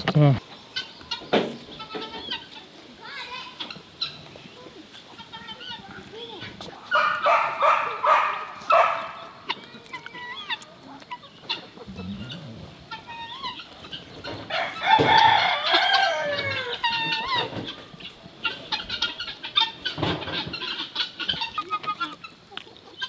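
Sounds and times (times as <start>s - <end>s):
poultry clucking and calling: 0.0s - 23.0s.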